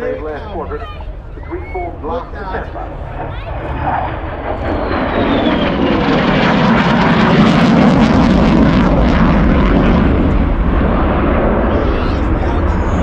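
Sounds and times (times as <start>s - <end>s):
jet roar: 0.0s - 13.0s.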